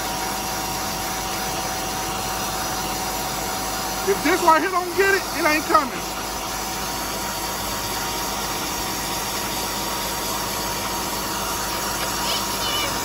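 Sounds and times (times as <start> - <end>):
carpet cleaning machine running: 0.0 - 13.0.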